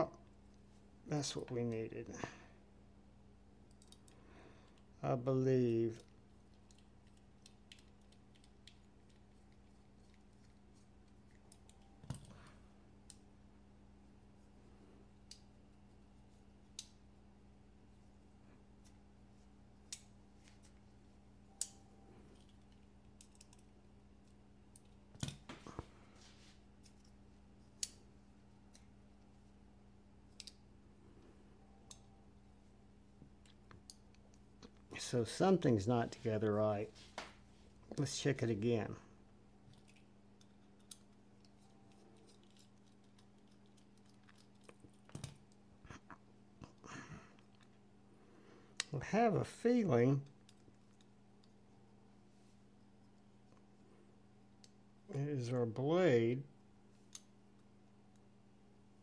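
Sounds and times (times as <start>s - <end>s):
quiet steady hum: 0.0s - 59.0s.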